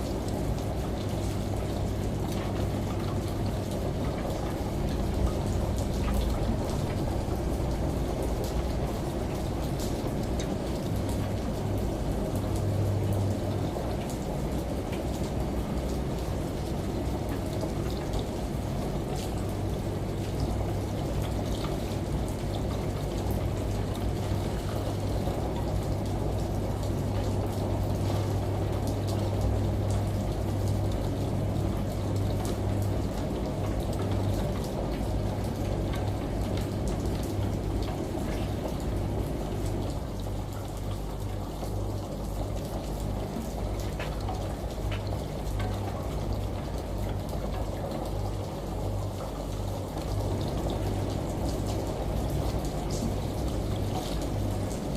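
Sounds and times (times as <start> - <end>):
rain and shower water: 0.0 - 54.9
washing machine hum: 0.0 - 54.9.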